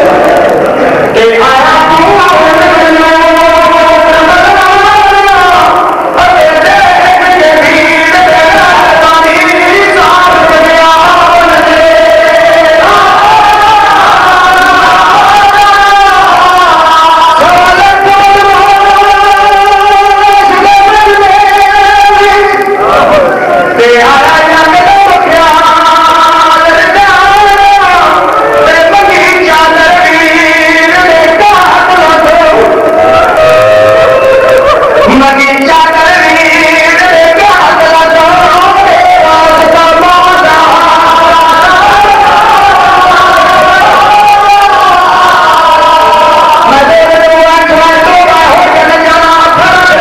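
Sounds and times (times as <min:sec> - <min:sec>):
men chanting a lament: 0:00.0 - 0:50.0.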